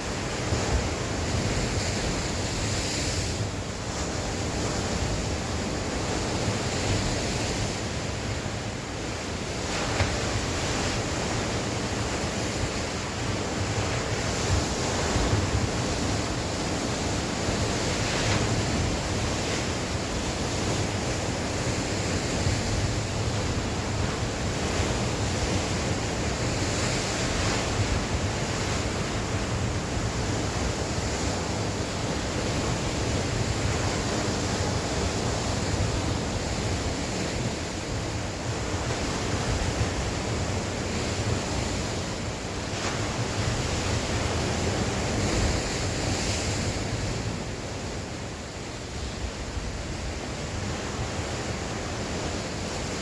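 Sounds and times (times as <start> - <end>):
sea waves washing onto shore: 0.0 - 53.0.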